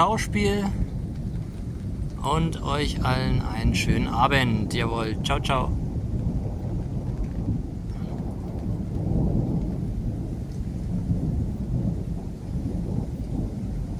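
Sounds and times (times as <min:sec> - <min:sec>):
low rumble of thunder: 0:00.0 - 0:13.9.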